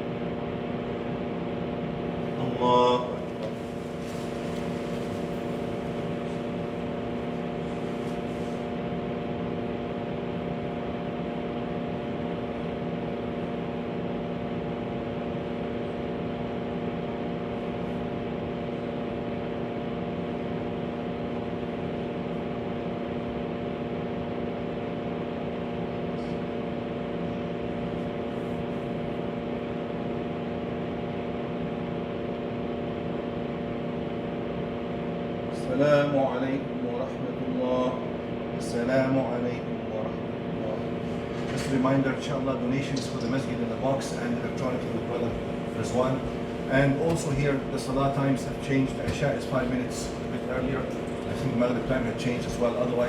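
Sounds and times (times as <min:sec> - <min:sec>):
steady hum of held tones: 0:00.0 - 0:53.0.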